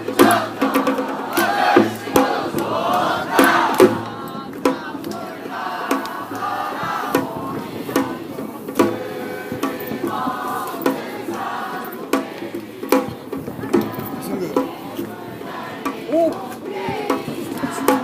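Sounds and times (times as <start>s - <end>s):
drum strikes: 0.0s - 18.0s
group chanting voices: 0.0s - 18.0s.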